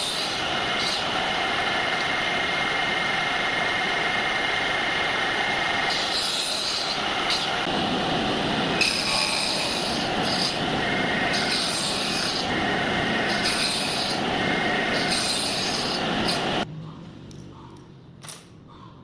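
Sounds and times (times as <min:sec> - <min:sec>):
wood being sanded: 0:00.0 - 0:16.6.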